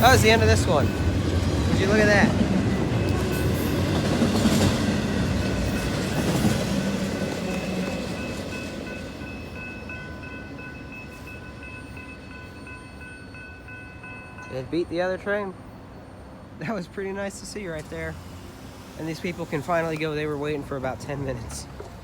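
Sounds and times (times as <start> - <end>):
crossing warning bell ringing: 0.0 - 21.5
freight train rumbling on rails: 0.0 - 22.0.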